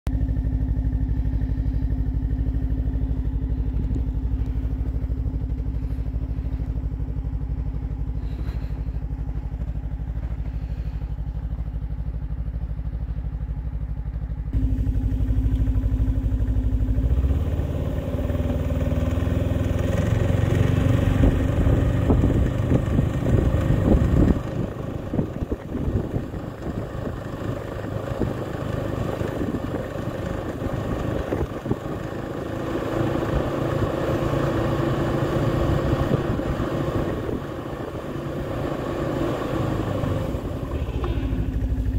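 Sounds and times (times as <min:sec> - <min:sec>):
snowmobile engine running: 0:00.1 - 0:41.9.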